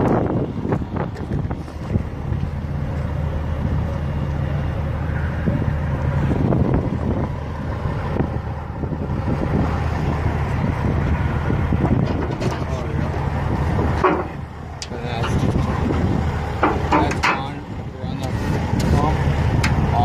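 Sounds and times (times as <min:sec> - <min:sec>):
engine idling: 0:00.0 - 0:20.0
wind buffeting microphone: 0:00.0 - 0:20.0.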